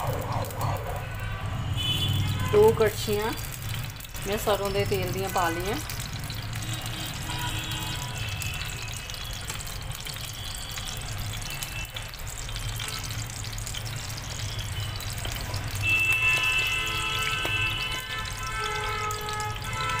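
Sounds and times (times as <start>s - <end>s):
oil sizzling: 0.0s - 20.0s.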